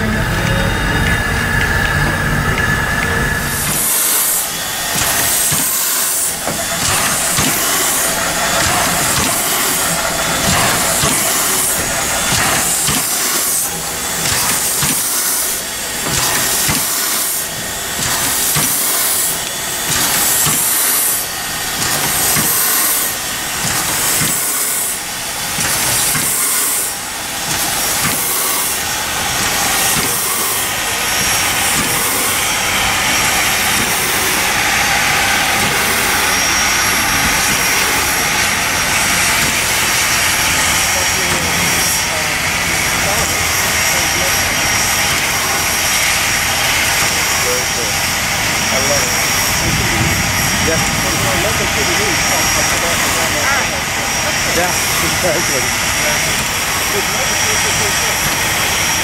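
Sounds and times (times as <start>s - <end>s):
steam hissing from locomotive: 0.0s - 59.0s.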